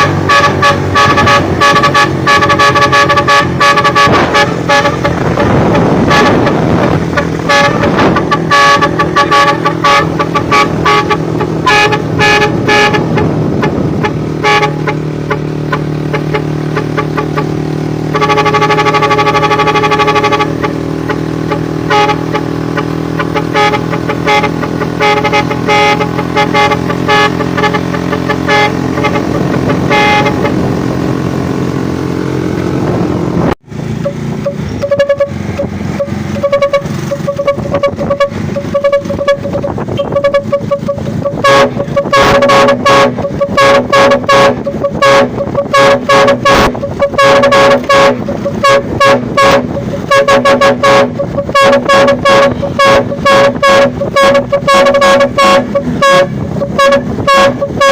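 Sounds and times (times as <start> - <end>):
truck engine running: 0.0 - 57.9
truck horn blasts and toots: 0.0 - 57.9.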